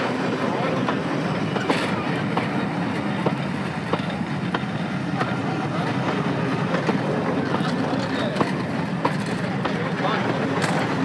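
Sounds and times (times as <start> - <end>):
train carriage rumbling: 0.0 - 11.0
wheels clicking over rails: 0.0 - 11.0.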